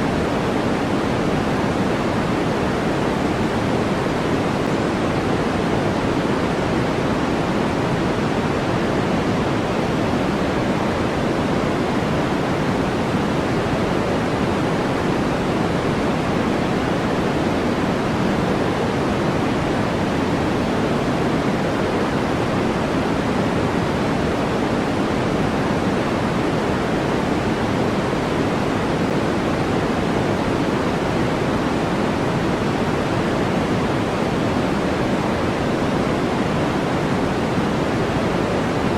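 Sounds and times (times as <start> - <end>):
synthetic white noise hiss: 0.0 - 38.9.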